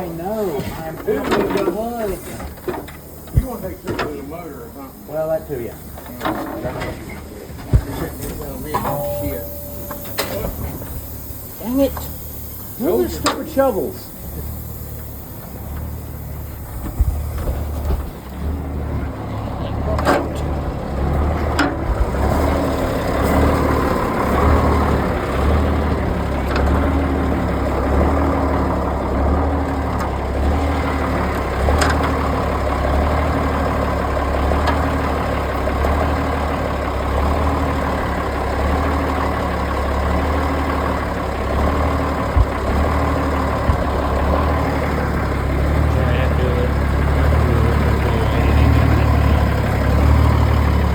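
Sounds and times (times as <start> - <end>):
truck engine idling: 0.0 - 50.9.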